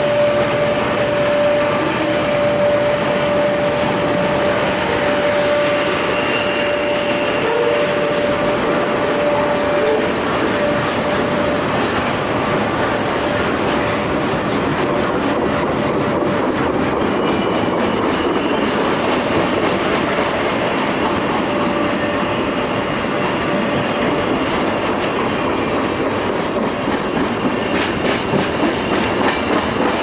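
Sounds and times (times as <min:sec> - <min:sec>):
train wheels clattering on rail: 0:00.0 - 0:30.0.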